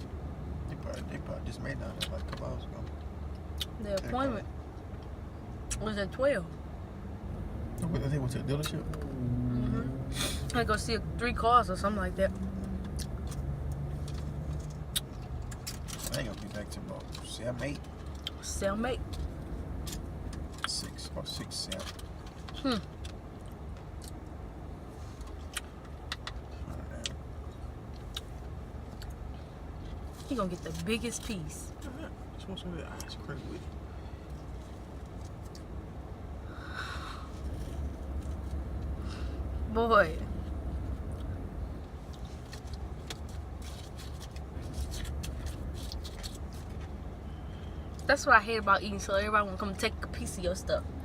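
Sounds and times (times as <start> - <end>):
low engine rumble: 0.0 - 51.0.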